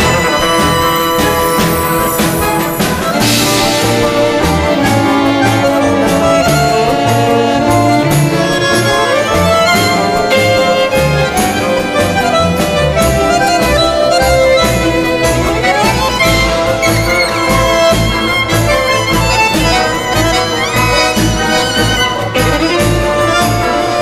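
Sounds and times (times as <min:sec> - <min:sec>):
music with reedy held notes: 0:00.0 - 0:24.0
percussive beat: 0:00.0 - 0:24.0.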